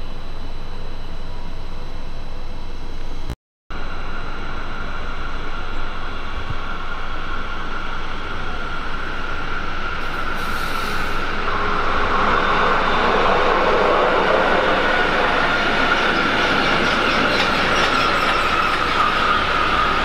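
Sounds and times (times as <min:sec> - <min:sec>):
high locomotive whine: 0:00.0 - 0:20.0
freight train rolling rumble: 0:03.8 - 0:20.0.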